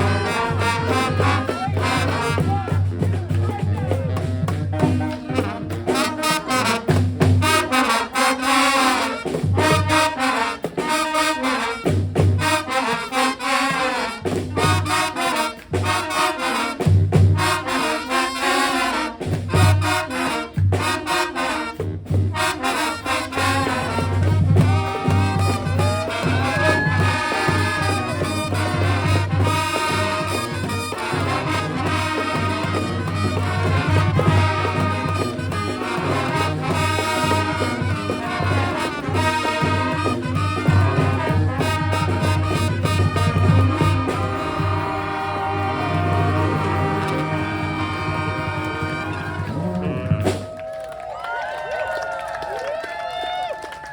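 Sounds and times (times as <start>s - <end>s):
brass band playing: 0.0s - 50.8s.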